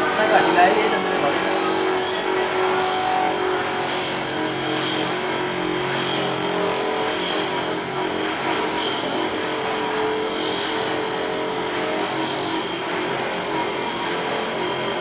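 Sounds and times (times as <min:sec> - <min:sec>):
continuous grinding hiss: 0:00.0 - 0:15.0
grinder motor hum: 0:00.0 - 0:15.0.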